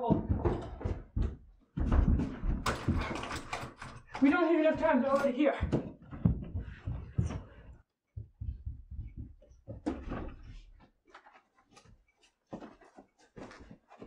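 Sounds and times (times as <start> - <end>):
footsteps hurrying down stairs: 0.0 - 14.0.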